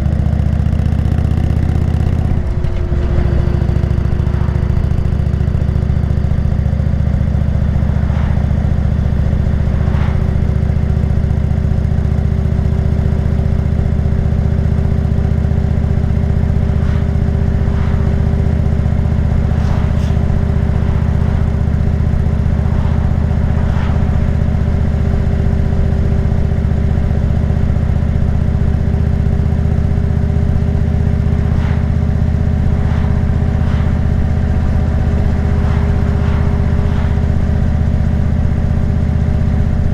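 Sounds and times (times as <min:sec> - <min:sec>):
motorcycle engine cruising: 0:00.0 - 0:39.8.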